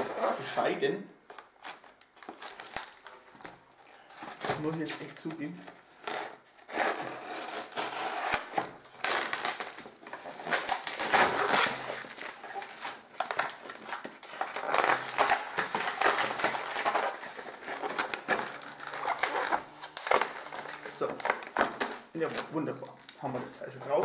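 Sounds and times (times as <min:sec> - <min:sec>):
styrofoam creaking and crackling: 0:00.0 - 0:24.0.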